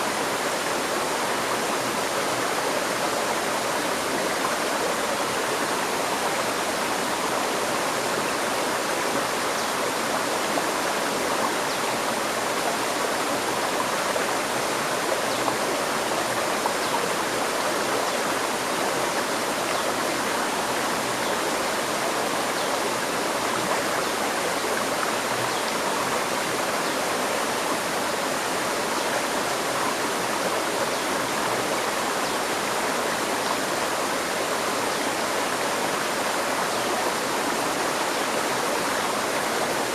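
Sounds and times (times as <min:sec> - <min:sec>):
water babbling over rocks: 0:00.0 - 0:39.9.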